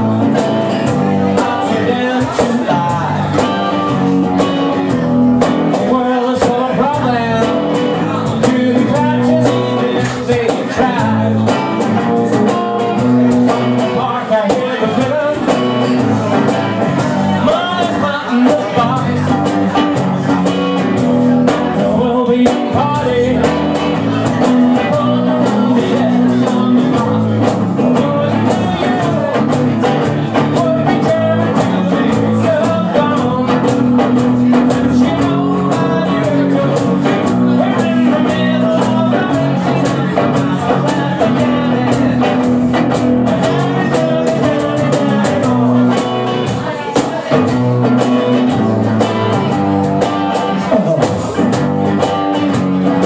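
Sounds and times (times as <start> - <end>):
bass: 0.0 - 53.0
electric guitar bending notes: 0.0 - 53.0
percussion steady beat: 0.0 - 53.0.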